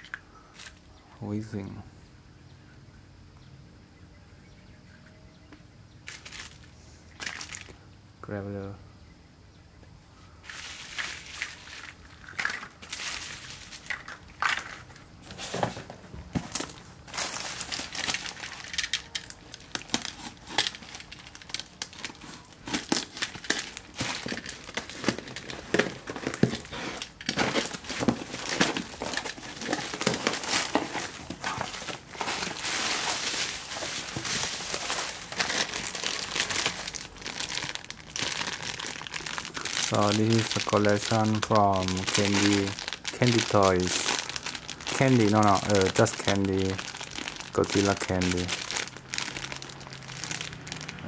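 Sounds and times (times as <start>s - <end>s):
plastic packaging crinkling: 6.1s - 7.8s, 10.4s - 51.0s.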